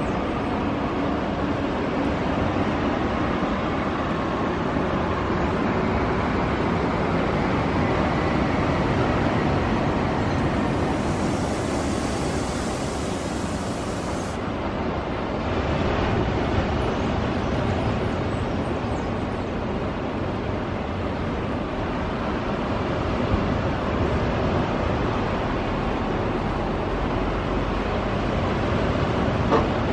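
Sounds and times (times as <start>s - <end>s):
urban traffic hum: 0.0s - 29.9s.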